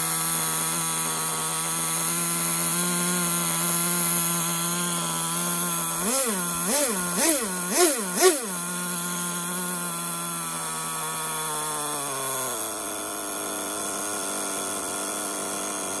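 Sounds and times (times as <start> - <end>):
model engine idling: 0.0 - 16.0.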